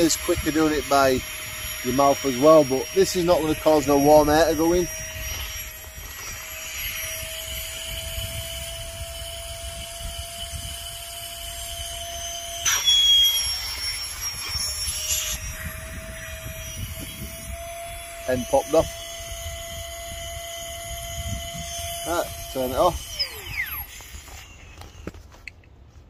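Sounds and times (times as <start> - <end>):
electric air pump whirring: 0.0 - 25.6.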